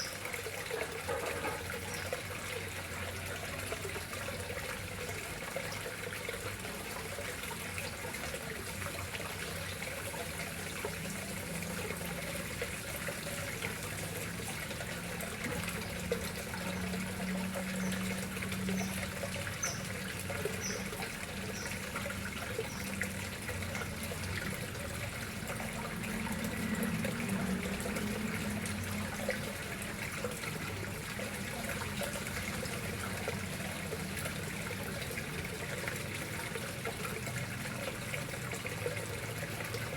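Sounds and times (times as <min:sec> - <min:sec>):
water splashing into a pond: 0:00.0 - 0:39.9.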